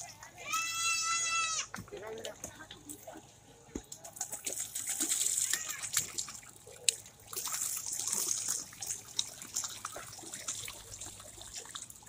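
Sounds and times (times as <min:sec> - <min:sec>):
paddle wheel churning water: 0:00.0 - 0:12.0.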